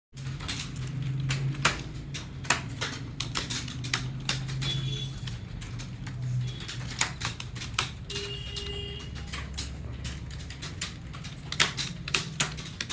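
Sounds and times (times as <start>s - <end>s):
keyboard typing clicks: 0.2s - 12.9s.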